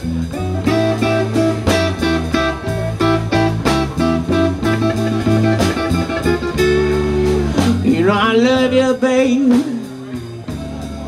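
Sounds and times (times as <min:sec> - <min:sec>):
live blues band playing: 0:00.0 - 0:11.0.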